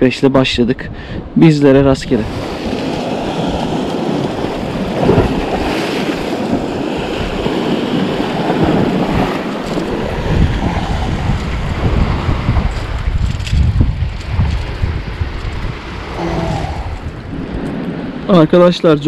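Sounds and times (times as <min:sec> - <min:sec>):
wind rumbling on microphone: 0:00.0 - 0:19.0
surf washing against rocks: 0:02.0 - 0:19.0.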